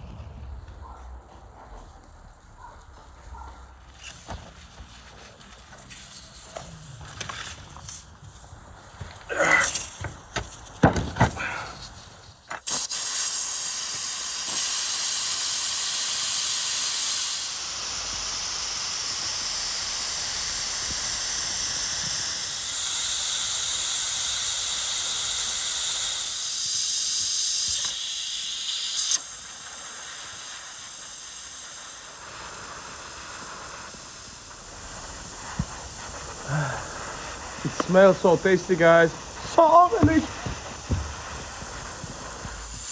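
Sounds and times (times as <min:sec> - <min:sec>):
steam hissing from pressure valve: 0:03.7 - 0:42.9.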